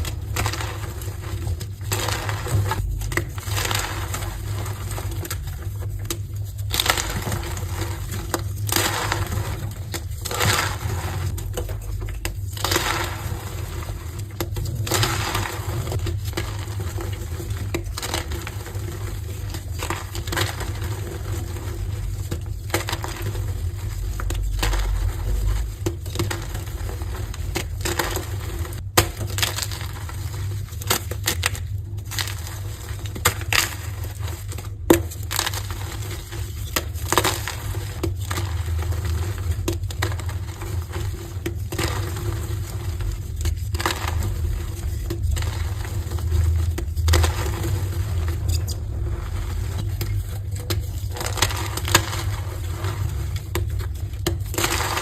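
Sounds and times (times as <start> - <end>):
chalk blocks crunching: 0.0 - 55.0.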